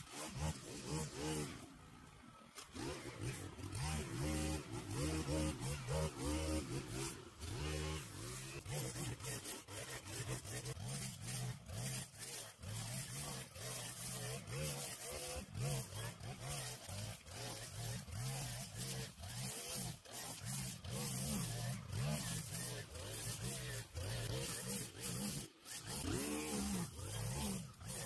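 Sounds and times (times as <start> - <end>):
string trimmer engine: 0.0 - 28.0.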